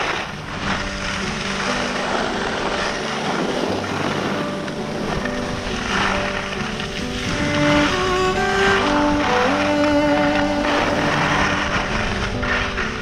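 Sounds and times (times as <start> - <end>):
faint music with held notes: 0.0 - 13.0
skis sliding on snow: 0.0 - 13.0
wind rushing over microphone: 0.0 - 13.0.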